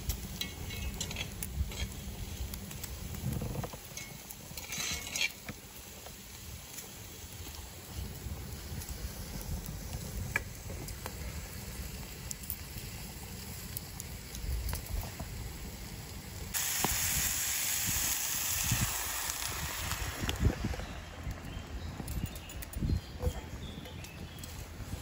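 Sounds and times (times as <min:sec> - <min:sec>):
egg sizzling in hot pan: 0:00.0 - 0:21.4
wood fire crackling: 0:00.0 - 0:25.0.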